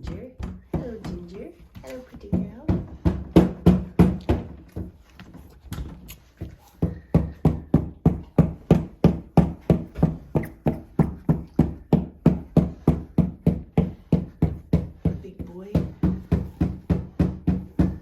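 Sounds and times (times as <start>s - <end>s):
rhythmic dull thumping: 0.0s - 5.1s, 6.8s - 18.0s.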